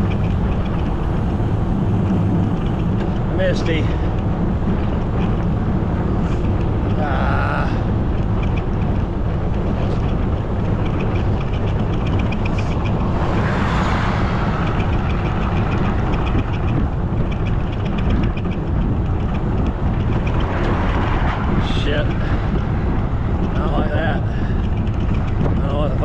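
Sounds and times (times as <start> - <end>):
rapid ticking from bicycle: 0.0 - 26.0
wind buffeting microphone: 0.0 - 26.0.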